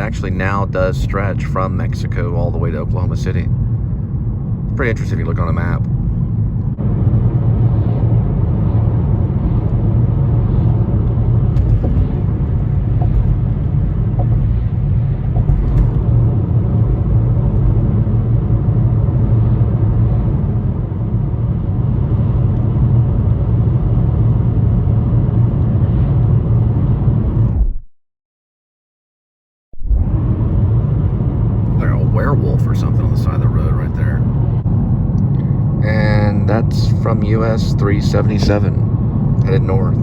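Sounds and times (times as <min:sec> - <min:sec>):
car driving heard from inside: 0:00.0 - 0:27.8, 0:29.8 - 0:40.0.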